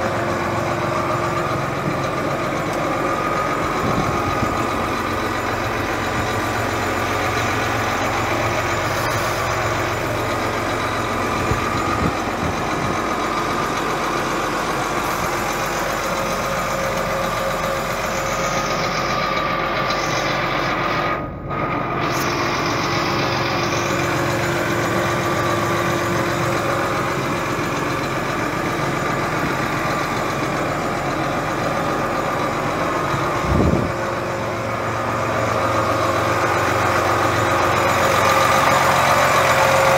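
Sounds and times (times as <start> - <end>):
steady whine: 0.0 - 39.9
tractor diesel engine running: 0.0 - 39.9.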